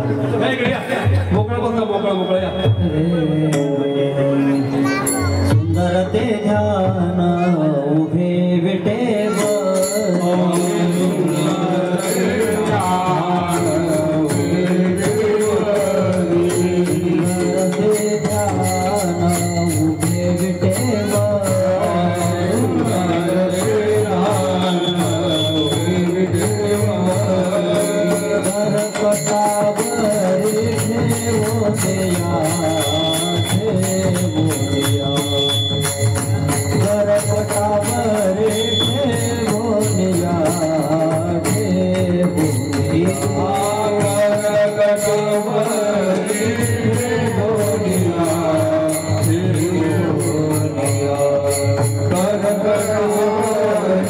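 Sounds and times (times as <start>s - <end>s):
instrumental accompaniment: 0.0s - 54.0s
man singing devotional song: 0.0s - 54.0s
percussion steady beat: 0.0s - 54.0s.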